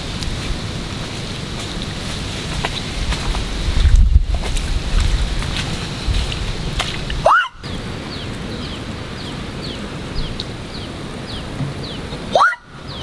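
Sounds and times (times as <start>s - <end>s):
steady outdoor hiss: 0.0s - 13.0s
wind rumbling on microphone: 0.0s - 13.0s.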